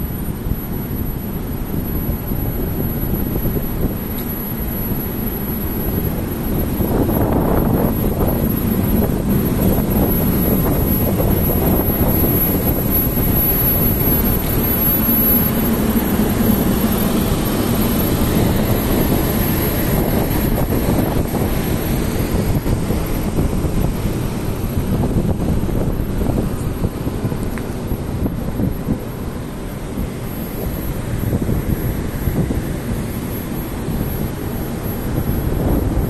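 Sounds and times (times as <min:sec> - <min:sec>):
locomotive engine rumbling: 0:00.0 - 0:36.0.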